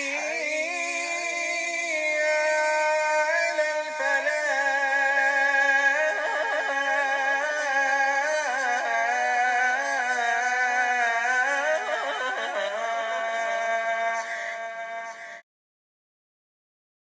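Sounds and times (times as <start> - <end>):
man singing call to prayer: 0.0 - 15.4.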